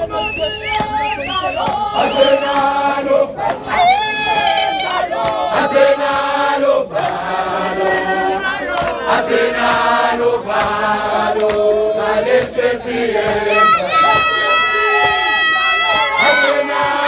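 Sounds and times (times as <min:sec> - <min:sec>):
crowd singing in chorus: 0:00.0 - 0:17.0.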